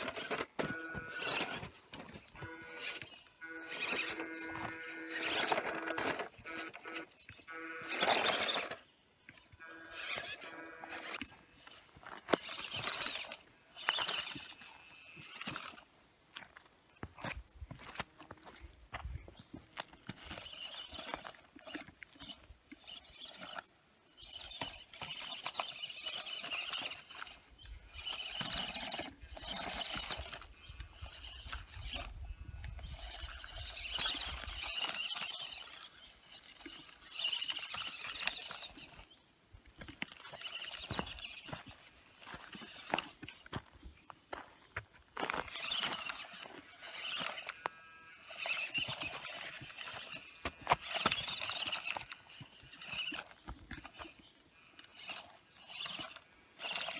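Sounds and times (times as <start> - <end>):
electric motor and gearbox whining: 0.0 - 56.9
wheels clicking on rock: 0.0 - 56.9.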